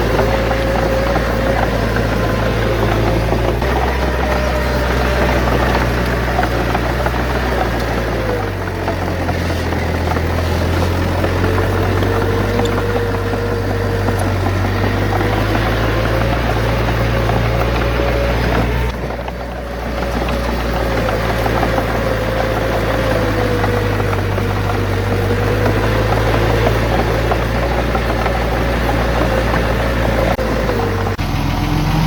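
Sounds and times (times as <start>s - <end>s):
bulldozer diesel engine running: 0.0s - 32.0s
constant whine: 0.0s - 32.0s.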